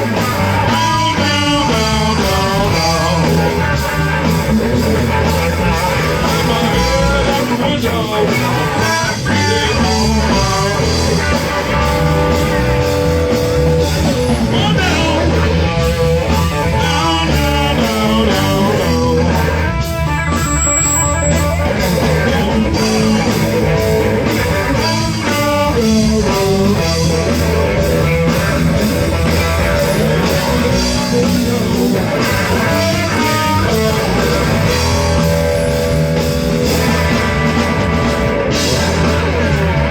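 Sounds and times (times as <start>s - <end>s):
electric guitar lead lines: 0.0s - 39.9s
live blues-rock band: 0.0s - 39.9s
steady bass: 0.0s - 39.9s.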